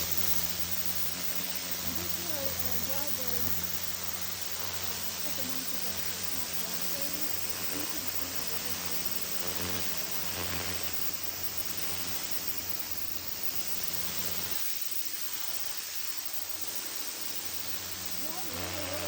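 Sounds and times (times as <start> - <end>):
pressure washer motor hum: 0.0 - 14.7, 16.9 - 19.0
water spray hissing: 0.0 - 19.0.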